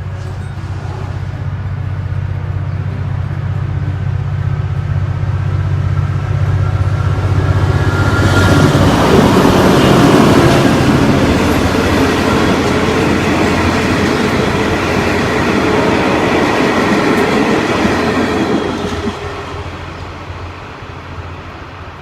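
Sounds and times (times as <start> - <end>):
train rumbling past on rails: 0.0 - 22.0.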